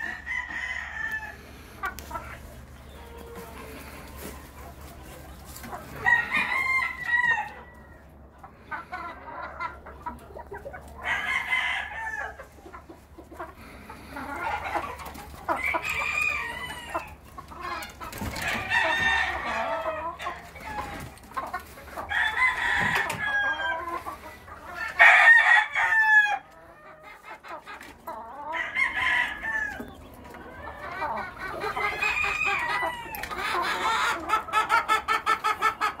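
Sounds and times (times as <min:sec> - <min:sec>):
roosters crowing: 0:00.0 - 0:04.7, 0:05.5 - 0:09.1, 0:10.9 - 0:12.6, 0:13.4 - 0:27.2, 0:28.2 - 0:36.0
chickens clucking: 0:00.0 - 0:36.0.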